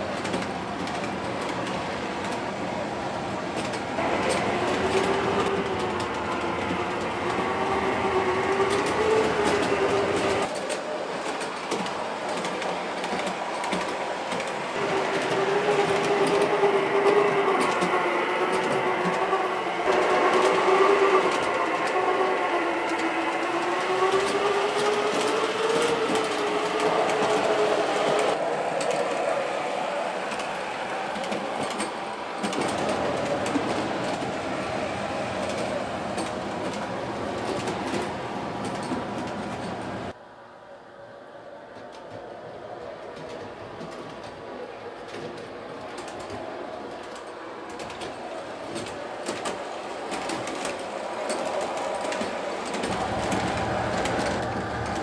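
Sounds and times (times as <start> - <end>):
wheels on rails: 0.0 - 40.2, 41.4 - 55.0.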